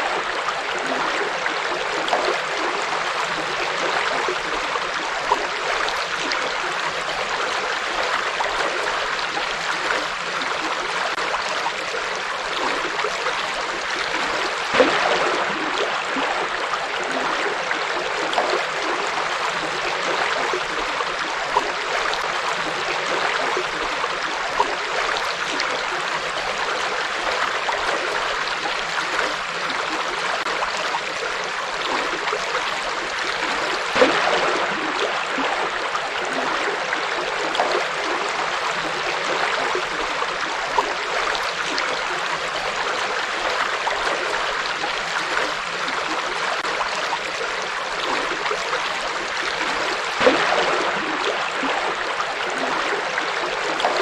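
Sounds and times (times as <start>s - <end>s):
river rushing and gurgling: 0.0s - 54.0s
water splashes: 0.0s - 54.0s.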